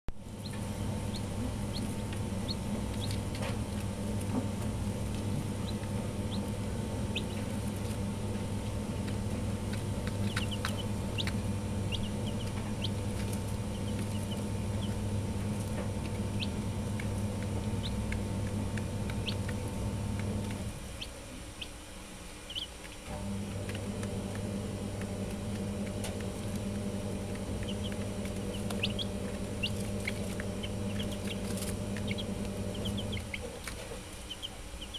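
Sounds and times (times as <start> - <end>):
steady low hum: 0.1 - 34.9
chicks peeping: 0.2 - 34.9.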